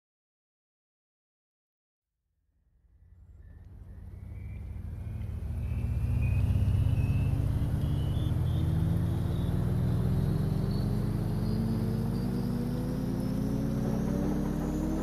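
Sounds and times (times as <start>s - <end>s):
low sustained synth tones: 2.8s - 15.0s.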